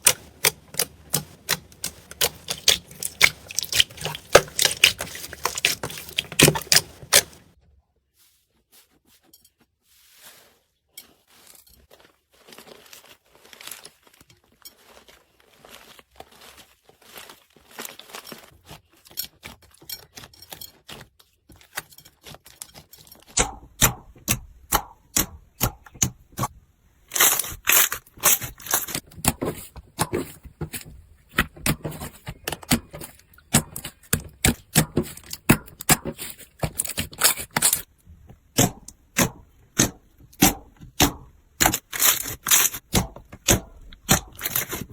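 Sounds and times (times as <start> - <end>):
crunchy slime crackling and popping: 0.0 - 7.6, 11.3 - 19.6, 23.3 - 37.9, 38.5 - 44.9.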